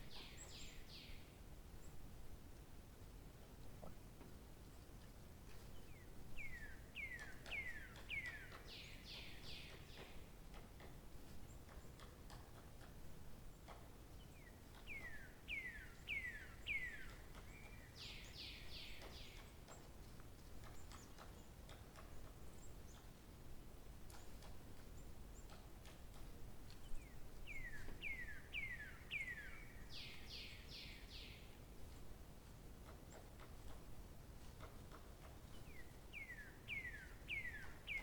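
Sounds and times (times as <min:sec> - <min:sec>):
songbird singing: 0:00.0 - 0:02.0, 0:04.8 - 0:23.2, 0:24.1 - 0:32.2, 0:34.6 - 0:38.0
faint background hiss: 0:00.0 - 0:38.0.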